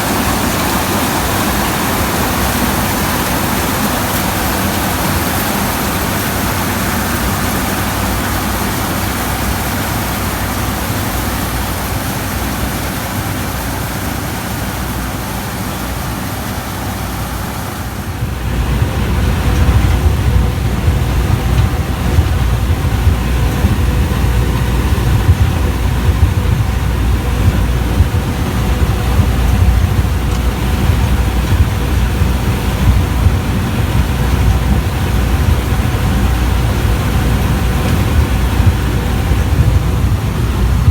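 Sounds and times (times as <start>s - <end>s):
combine harvester running: 0.0s - 40.9s
heavy low rumble: 0.0s - 40.9s.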